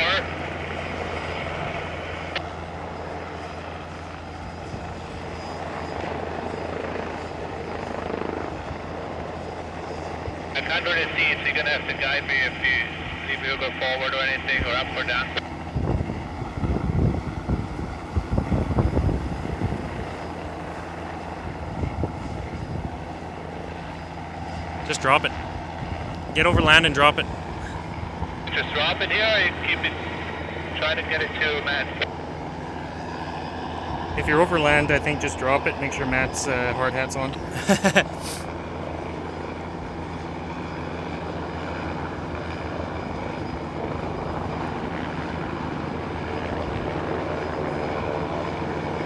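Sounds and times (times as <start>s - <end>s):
distant helicopter drone: 0.0s - 49.0s.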